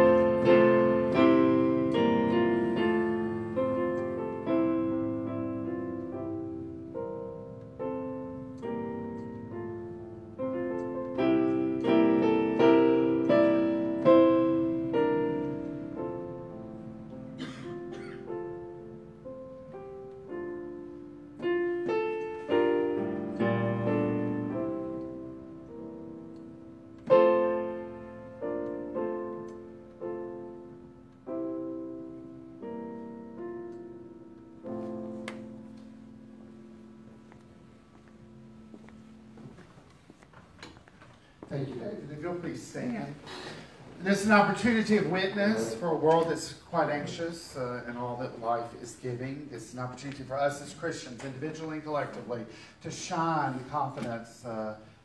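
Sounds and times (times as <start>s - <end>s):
digital piano playing: 0.0s - 43.2s, 44.0s - 55.0s.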